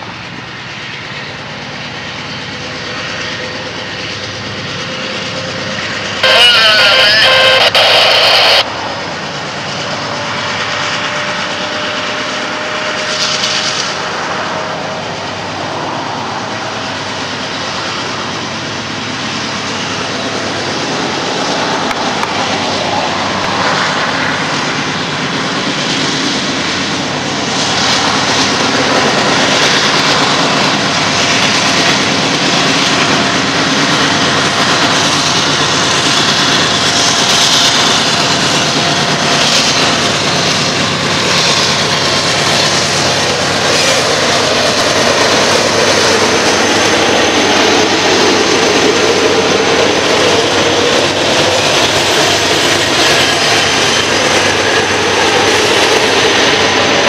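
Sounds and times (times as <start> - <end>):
diesel locomotives running hard: 0.0 - 57.0.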